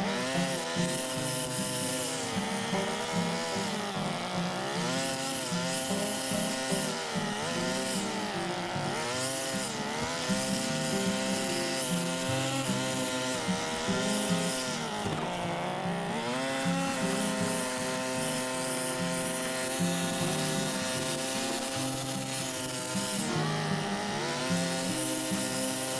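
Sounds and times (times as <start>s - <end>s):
brush cutter cutting grass: 0.0s - 25.9s.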